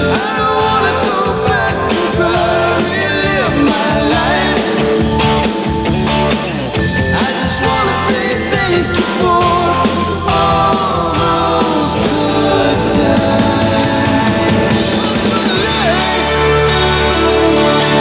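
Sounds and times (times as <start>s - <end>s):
rock song with male singer: 0.0s - 18.0s.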